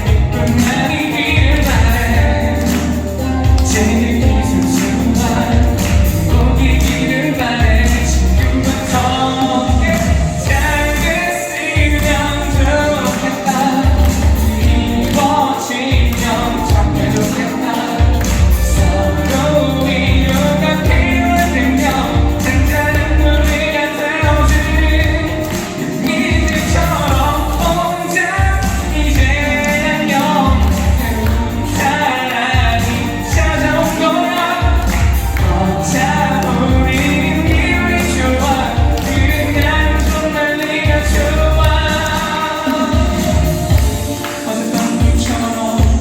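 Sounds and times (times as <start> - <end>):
live pop band with driving bass: 0.0 - 46.0
man singing: 0.0 - 46.0.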